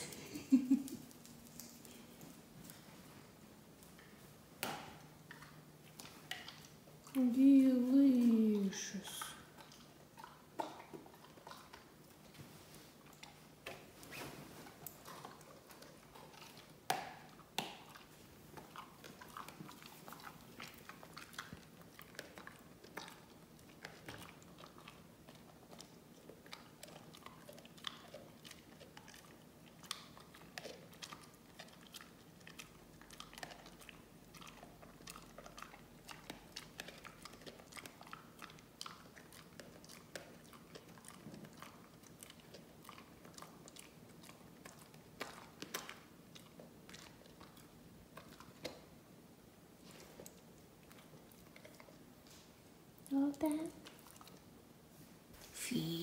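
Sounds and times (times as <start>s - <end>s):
dog crunching a chew: 3.8s - 7.2s, 9.2s - 49.0s, 49.8s - 53.1s, 53.7s - 54.5s.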